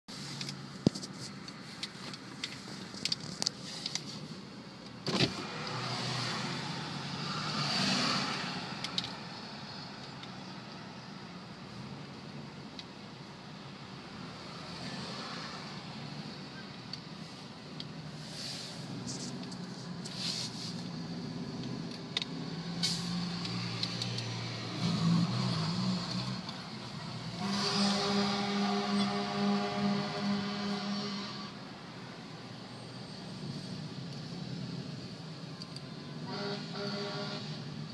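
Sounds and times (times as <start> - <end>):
vehicle engines running: 0.1 - 31.0
car and road noise: 0.1 - 37.9
truck engine hum: 0.1 - 37.9.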